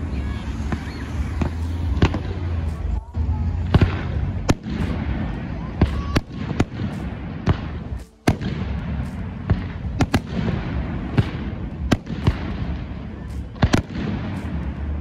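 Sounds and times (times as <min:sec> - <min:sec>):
fireworks bursting with sharp bangs: 0:00.0 - 0:15.0
low rumble: 0:00.0 - 0:15.0.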